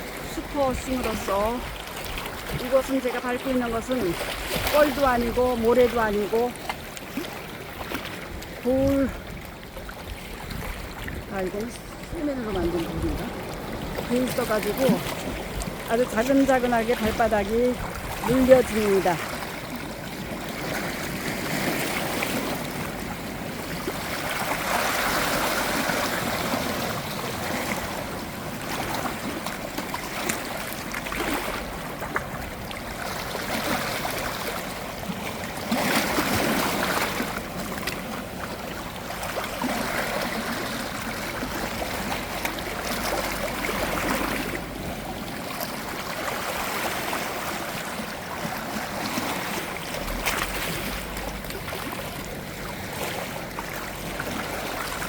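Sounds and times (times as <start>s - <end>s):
waves washing over stones: 0.0s - 55.0s.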